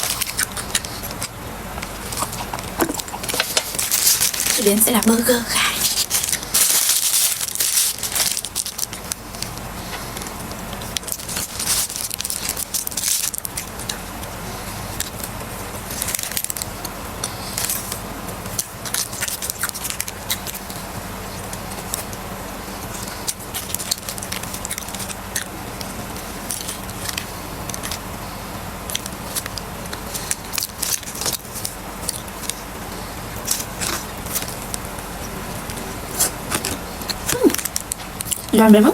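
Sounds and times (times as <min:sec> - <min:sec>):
crisp crunching while eating: 0:00.0 - 0:38.5
steady low hum: 0:00.0 - 0:38.9.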